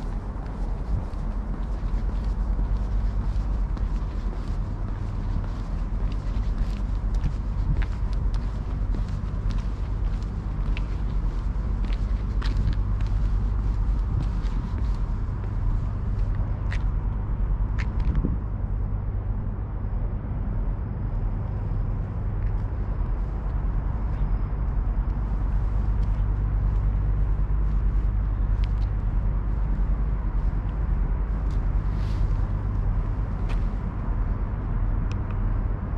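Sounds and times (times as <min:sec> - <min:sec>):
road traffic rumble: 0:00.0 - 0:35.9.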